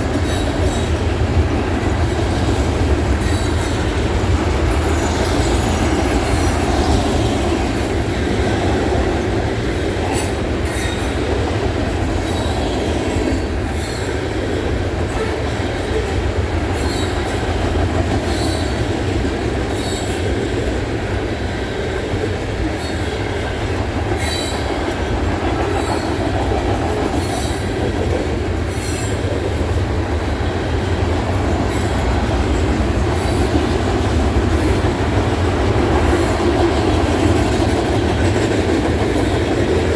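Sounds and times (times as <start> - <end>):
freight train rumble: 0.0 - 39.9.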